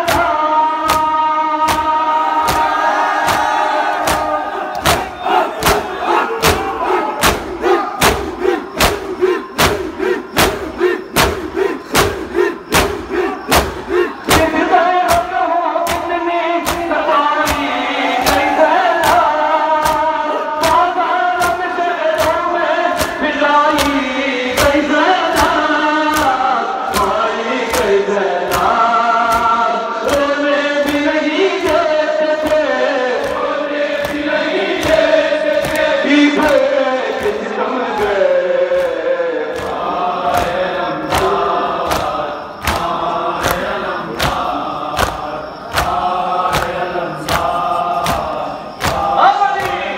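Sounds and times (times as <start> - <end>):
chanting voices: 0.0 - 49.9
men beating chests in unison: 0.0 - 49.9
men singing in unison: 0.0 - 49.9.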